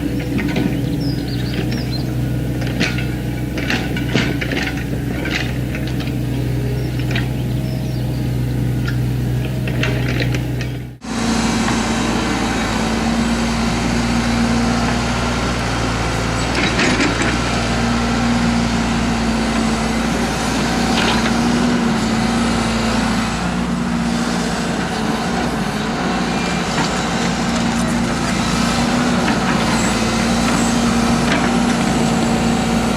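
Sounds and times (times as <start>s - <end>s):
diesel engine running under load: 0.0s - 32.9s.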